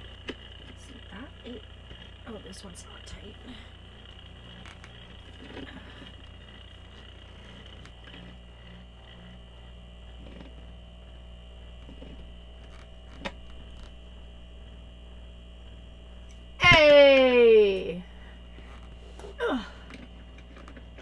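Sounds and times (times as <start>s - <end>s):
refrigerator compressor humming: 0.0s - 21.0s.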